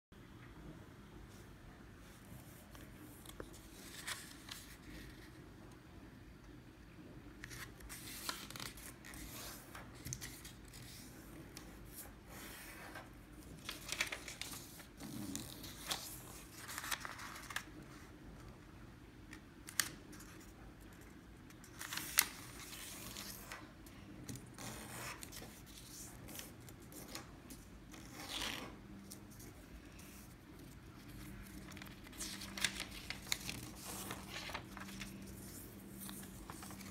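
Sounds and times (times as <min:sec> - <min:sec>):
paper rustling: 0:02.5 - 0:05.4, 0:07.4 - 0:18.1, 0:19.7 - 0:36.9.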